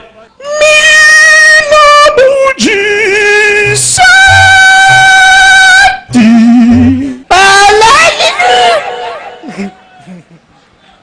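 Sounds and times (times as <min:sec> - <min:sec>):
person singing long notes: 0:00.4 - 0:09.7.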